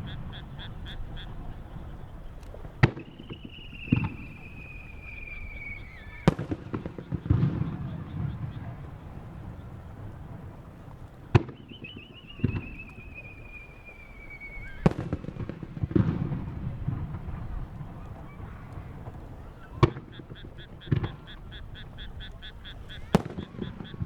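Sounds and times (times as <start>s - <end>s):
falling firework whistle: 0.0s - 24.0s
firework shells bursting: 0.0s - 24.0s.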